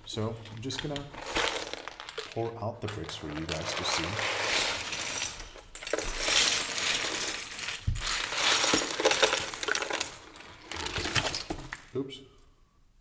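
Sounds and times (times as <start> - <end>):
plastic bricks clattering onto table: 0.2 - 11.9.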